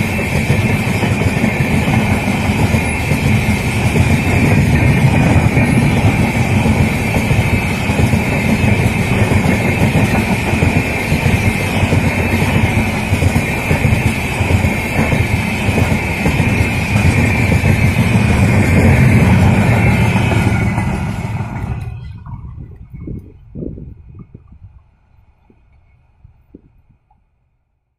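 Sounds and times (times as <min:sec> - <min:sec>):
train wheel and rail noise: 0:00.0 - 0:27.7.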